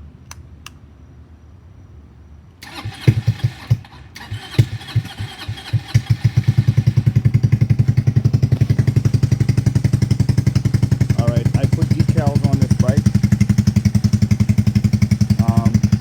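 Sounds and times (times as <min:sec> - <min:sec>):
motorcycle engine idling: 0:02.6 - 0:16.0.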